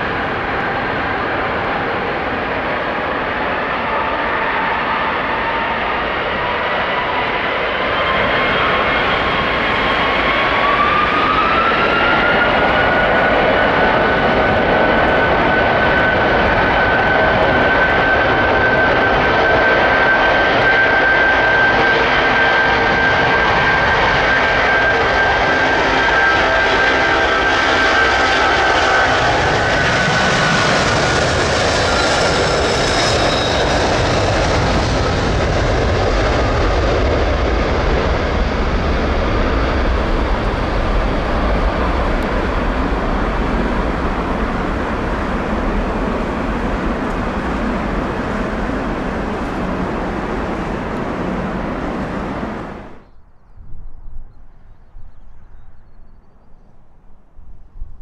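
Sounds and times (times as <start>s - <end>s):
jet engines running: 0.0s - 53.1s.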